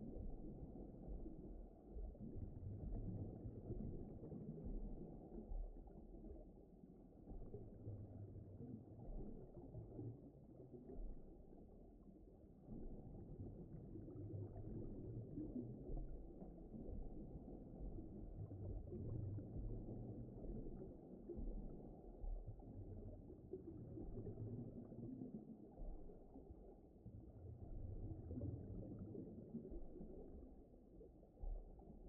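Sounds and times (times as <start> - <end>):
deep underwater rumble: 0.0 - 32.0.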